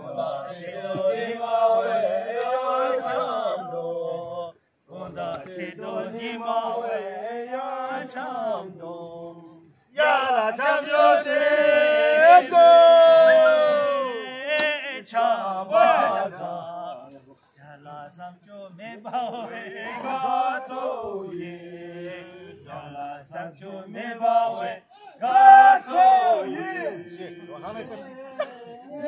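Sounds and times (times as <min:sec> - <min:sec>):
men chanting together: 0:00.0 - 0:29.0.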